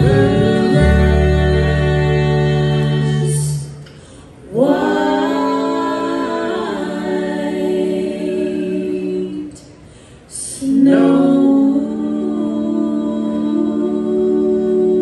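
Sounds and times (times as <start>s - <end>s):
band singing in close harmony: 0.0s - 3.6s, 4.5s - 9.6s, 10.6s - 15.0s.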